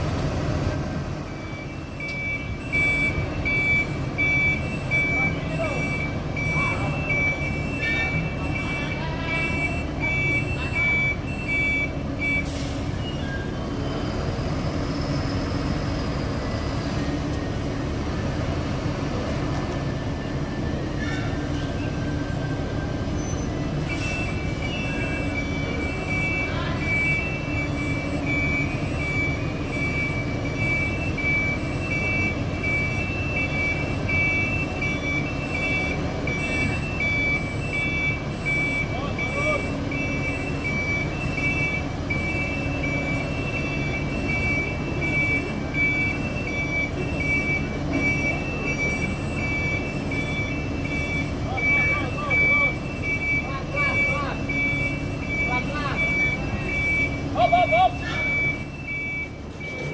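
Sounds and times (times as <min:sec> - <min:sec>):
truck diesel engine running: 0:00.0 - 0:59.9
reversing alarm beeping: 0:00.7 - 0:59.9.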